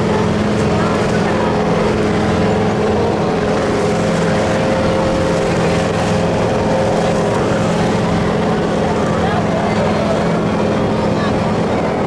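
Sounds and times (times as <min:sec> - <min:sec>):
motorboat engine humming: 0:00.0 - 0:12.0
rushing water: 0:00.0 - 0:12.0
rushing wind: 0:00.0 - 0:12.0.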